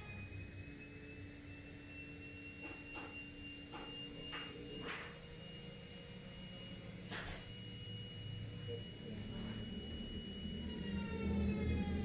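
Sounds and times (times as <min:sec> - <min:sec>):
low steady tone: 0:00.0 - 0:12.0.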